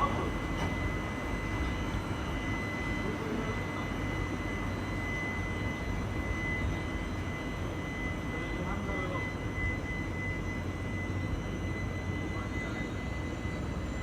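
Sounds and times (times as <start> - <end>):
constant high whine: 0.0 - 14.0.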